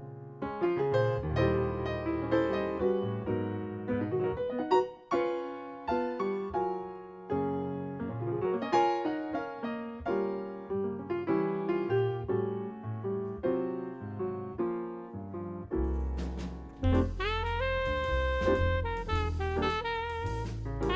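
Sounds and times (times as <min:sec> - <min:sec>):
solo piano music: 0:00.0 - 0:20.9.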